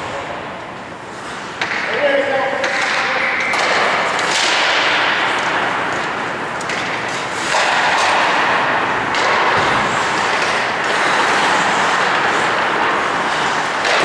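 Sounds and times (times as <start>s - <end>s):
hockey sticks and puck clacking: 0.0s - 14.0s
skates rushing on ice: 0.0s - 14.0s.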